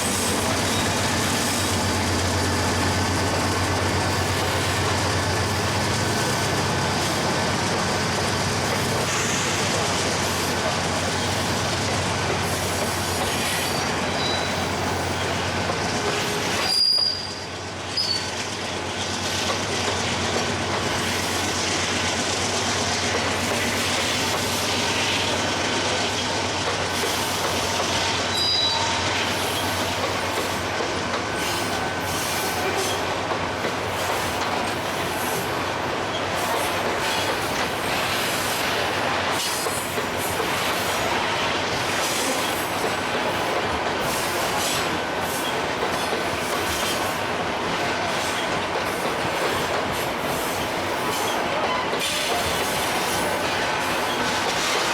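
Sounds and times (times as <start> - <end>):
train wheel squeals: 0.0 - 11.8, 12.4 - 18.6, 23.4 - 54.9
freight train rumbling past: 0.0 - 54.9.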